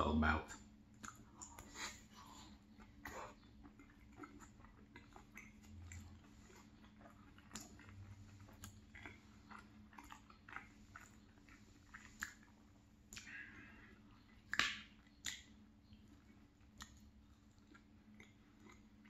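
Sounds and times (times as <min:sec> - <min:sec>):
wet chewing: 0:00.9 - 0:19.0.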